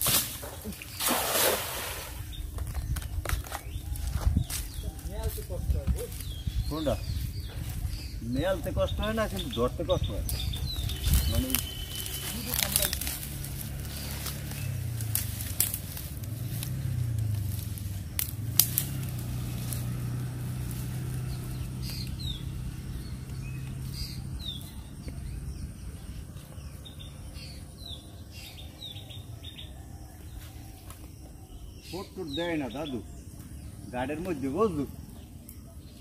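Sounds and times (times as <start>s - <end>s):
small birds chirping: 0.1s - 36.0s.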